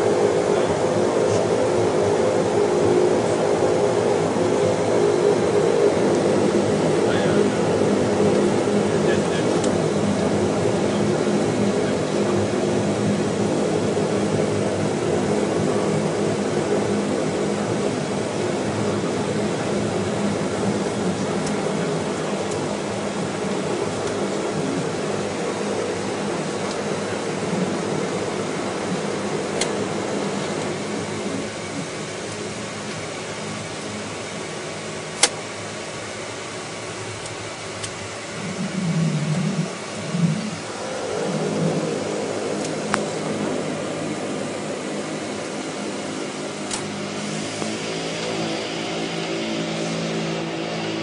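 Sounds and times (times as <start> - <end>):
low hum: 0.0 - 51.0
turboprop engines droning: 0.0 - 51.0.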